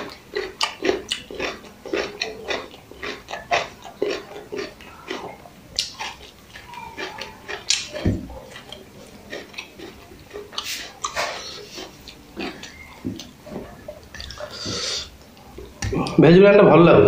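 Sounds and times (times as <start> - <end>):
wet chewing and lip-smacking: 0.0 - 16.2.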